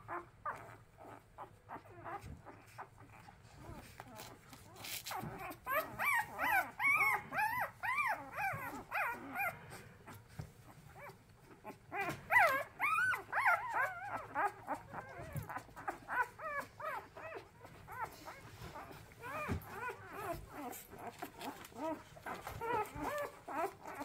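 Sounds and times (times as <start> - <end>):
puppies whining and crying: 0.0 - 24.0.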